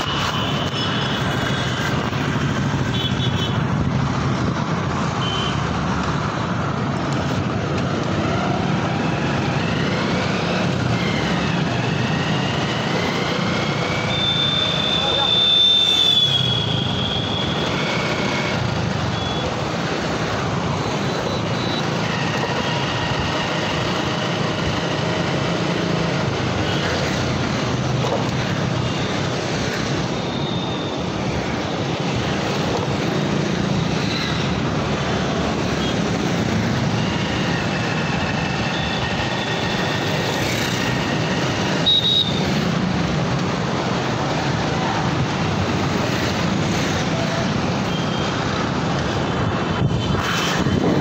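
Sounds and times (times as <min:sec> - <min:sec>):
road noise: 0:00.0 - 0:51.0.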